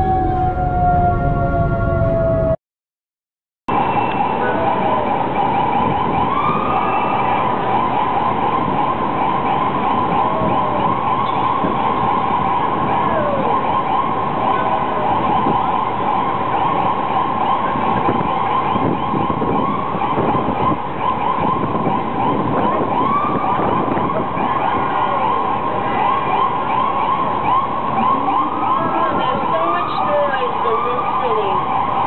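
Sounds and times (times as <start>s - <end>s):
ambulance siren: 0.0s - 2.6s, 3.7s - 32.0s
traffic noise: 0.0s - 2.6s, 3.7s - 32.0s.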